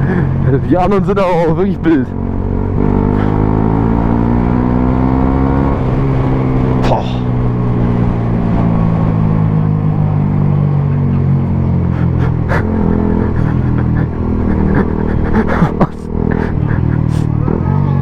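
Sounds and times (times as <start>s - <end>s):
motorcycle engine cruising: 0.0s - 18.0s.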